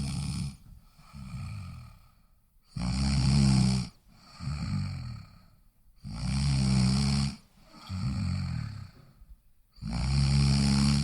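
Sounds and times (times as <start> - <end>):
person snoring: 0.0 - 9.0, 9.8 - 11.0.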